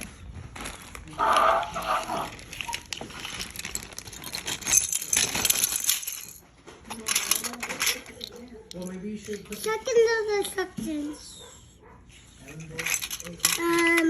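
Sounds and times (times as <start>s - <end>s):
plastic toy pieces clattering: 0.0s - 11.0s, 12.4s - 14.0s.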